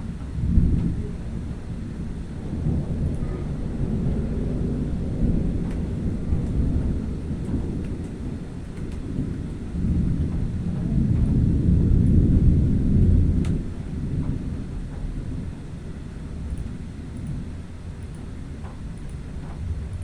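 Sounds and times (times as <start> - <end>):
thunder rumbling: 0.0 - 20.0.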